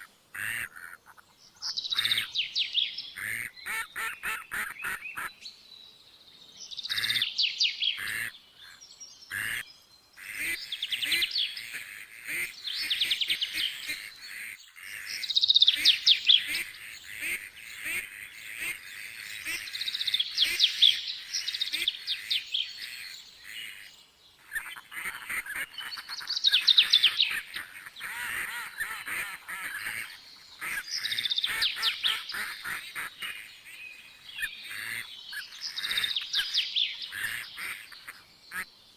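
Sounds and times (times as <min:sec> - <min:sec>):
birds chirping and chattering: 0:00.0 - 0:05.6, 0:06.4 - 0:38.8.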